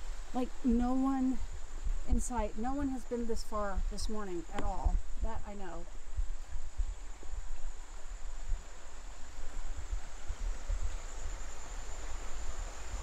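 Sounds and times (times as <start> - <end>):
low rumbling on microphone: 0.0 - 13.0.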